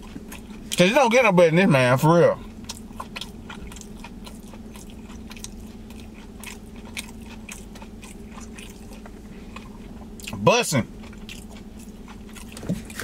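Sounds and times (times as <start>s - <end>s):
person chewing: 0.0s - 0.9s, 2.4s - 13.0s.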